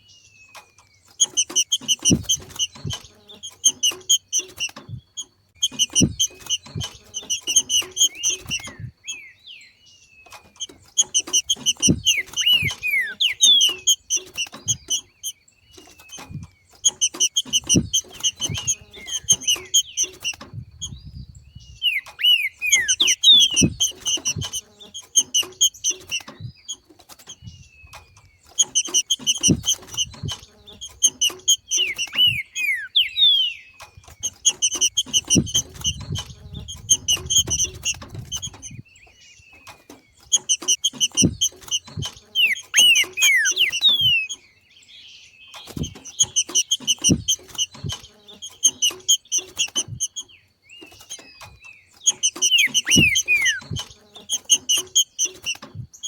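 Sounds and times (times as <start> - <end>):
bird chattering and whistling: 0.0 - 56.0.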